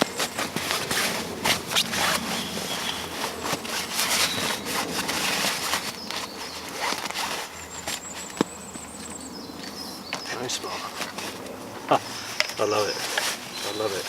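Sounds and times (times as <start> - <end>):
hands rubbing and scraping: 0.0 - 8.5, 10.6 - 14.0.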